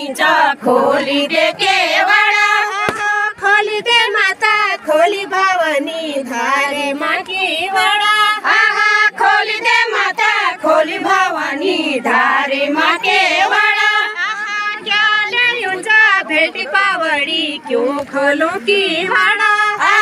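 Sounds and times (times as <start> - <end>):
women singing a folk song: 0.0 - 20.0.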